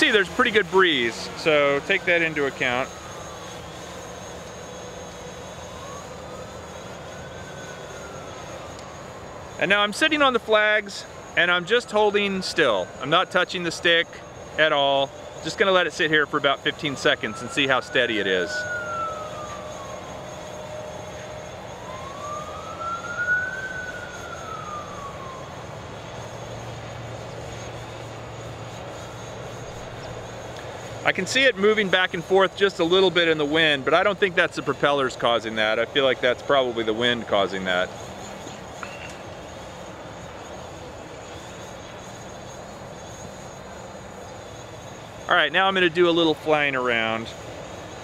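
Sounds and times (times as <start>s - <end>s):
distant drone whirring hum: 0.0s - 48.0s
faint siren wailing: 0.0s - 48.0s.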